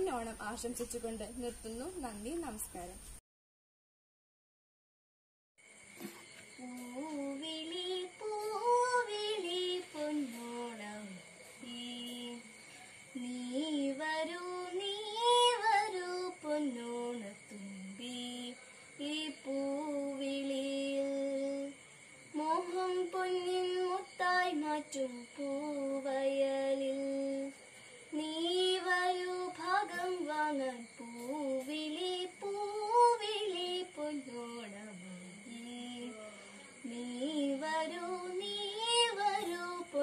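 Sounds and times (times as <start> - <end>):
girl singing unaccompanied: 6.5 - 40.0.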